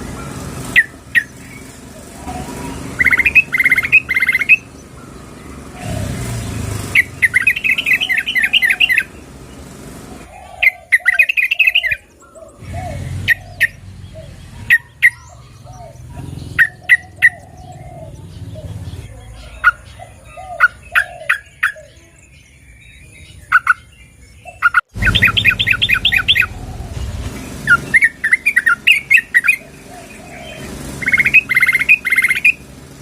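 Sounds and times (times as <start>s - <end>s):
bird chattering calls: 0.0s - 32.7s
softer lower bird calls: 0.0s - 32.7s.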